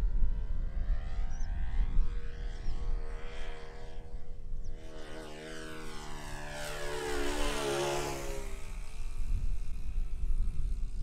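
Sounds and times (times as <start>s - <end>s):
model airplane motor and propeller: 0.0s - 11.0s.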